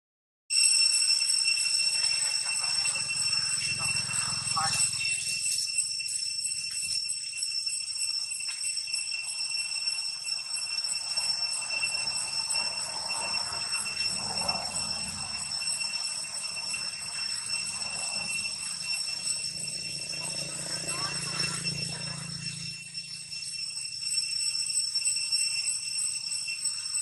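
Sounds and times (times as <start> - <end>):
insects droning: 0.6 - 27.0.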